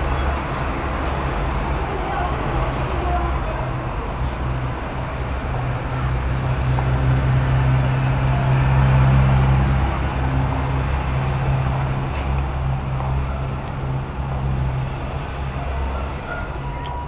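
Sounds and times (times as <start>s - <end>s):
rushing noise: 0.0s - 17.0s.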